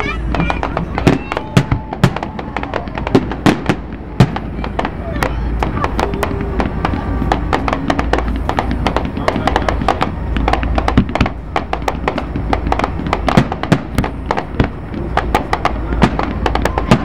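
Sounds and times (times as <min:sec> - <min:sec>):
fireworks cracks and bangs: 0:00.0 - 0:17.0
steady low rumble: 0:00.0 - 0:17.0.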